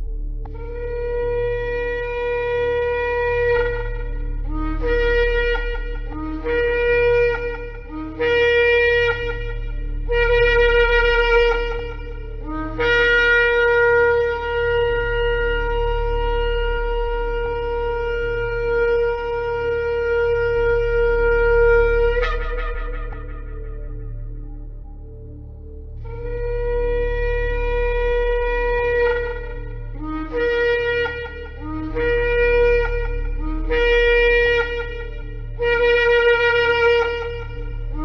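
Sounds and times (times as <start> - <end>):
shofar blasts: 0.0 - 25.0, 26.0 - 38.0
steady low hum: 0.0 - 38.0.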